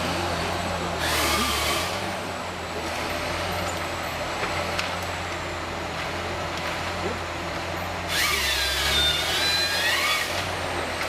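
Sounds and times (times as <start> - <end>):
heavy machine engine running: 0.0 - 11.0.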